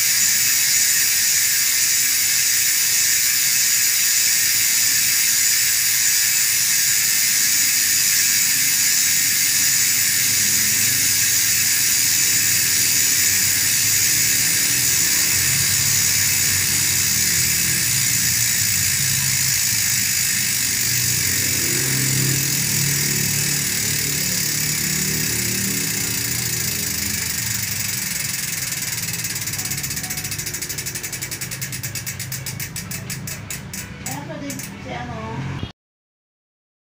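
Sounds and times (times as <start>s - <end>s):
bicycle freehub clicking buzz: 0.0s - 35.7s.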